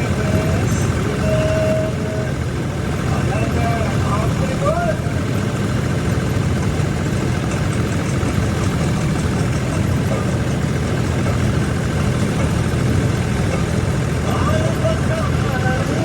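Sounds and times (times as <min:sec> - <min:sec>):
diesel engine drone from cab: 0:00.0 - 0:16.0.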